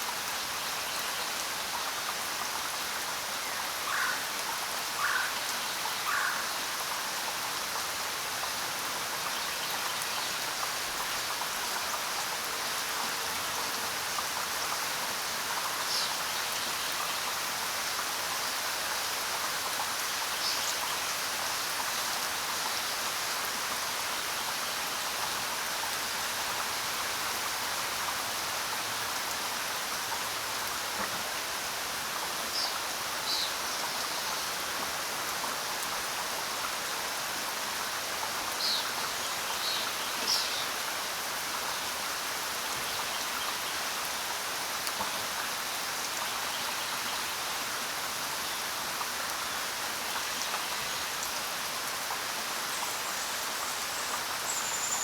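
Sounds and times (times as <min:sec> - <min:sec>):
rain falling on ground: 0:00.0 - 0:55.0.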